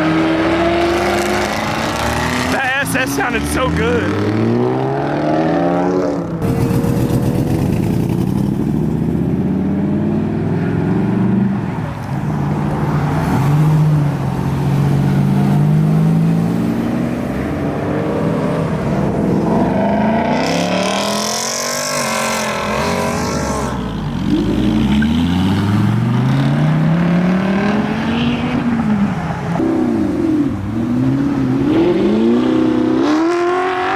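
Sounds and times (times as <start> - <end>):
car engines revving hard: 0.0 - 33.9.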